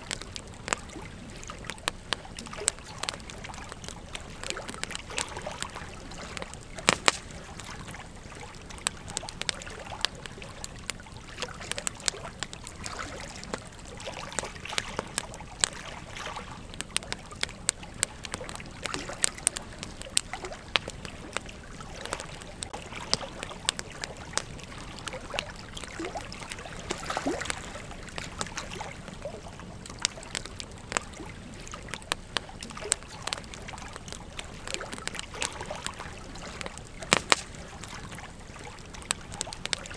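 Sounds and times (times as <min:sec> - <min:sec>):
campfire crackling and popping: 0:00.0 - 0:39.9
fire hiss: 0:00.0 - 0:39.9.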